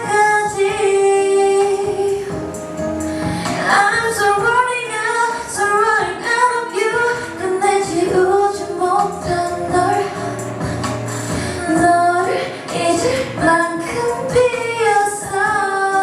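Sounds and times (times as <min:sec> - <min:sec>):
musical accompaniment: 0:00.0 - 0:16.0
woman singing pop song: 0:00.0 - 0:16.0.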